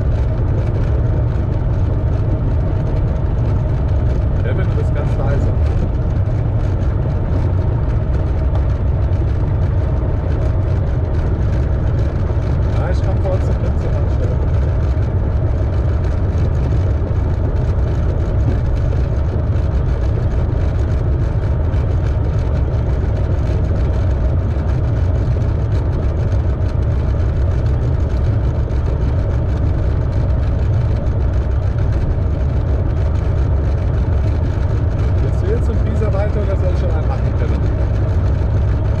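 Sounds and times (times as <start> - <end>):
propeller aircraft engine droning: 0.0 - 39.0.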